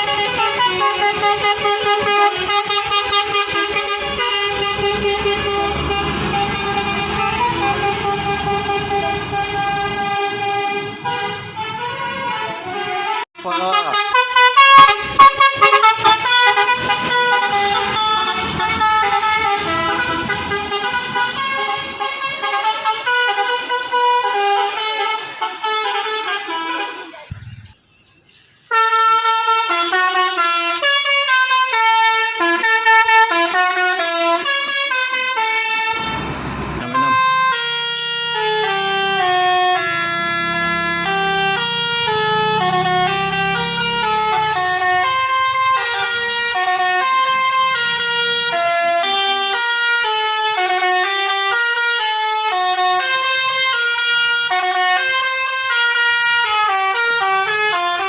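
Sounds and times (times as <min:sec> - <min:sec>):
musical bus horn melody: 0:00.0 - 0:27.3, 0:28.7 - 0:58.0.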